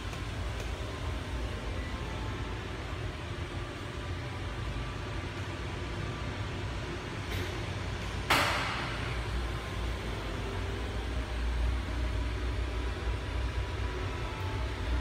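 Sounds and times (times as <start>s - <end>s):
low machinery rumble: 0.0s - 15.0s.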